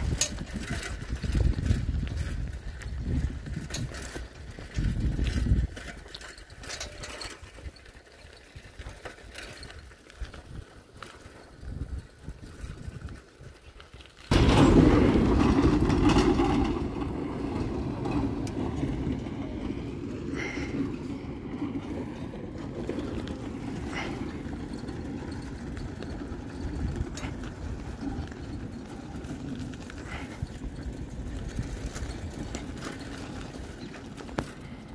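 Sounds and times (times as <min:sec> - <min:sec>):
large vehicle rumbling on gravel: 0:00.0 - 0:34.9.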